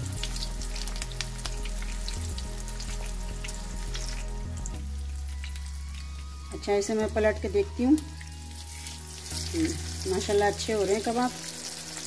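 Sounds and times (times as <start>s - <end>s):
oil crackling and popping: 0.0s - 6.8s, 7.9s - 12.0s
food sizzling in oil: 0.0s - 12.0s.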